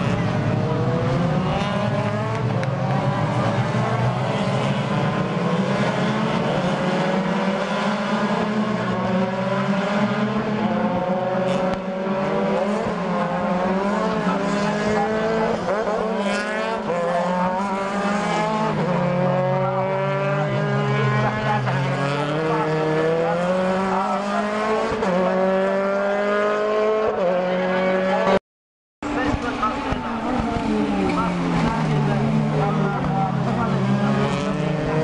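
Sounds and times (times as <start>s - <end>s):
racing engines accelerating: 0.0s - 28.4s, 29.0s - 35.0s.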